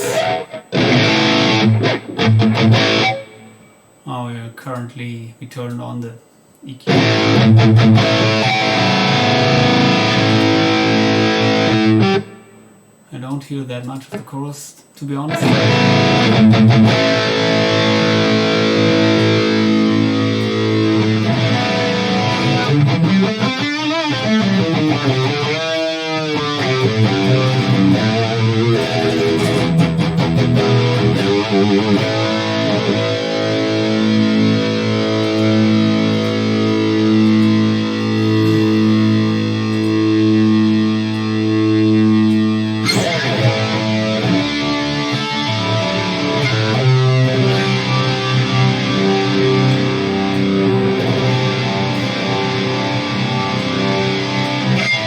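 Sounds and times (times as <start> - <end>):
electric guitar chords with chorus: 0.0 - 3.8, 6.9 - 12.7, 15.3 - 55.0.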